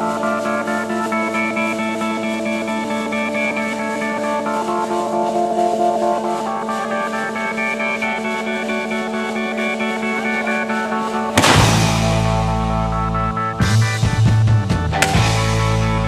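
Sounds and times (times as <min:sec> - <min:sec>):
guitar-led music: 0:00.0 - 0:16.0.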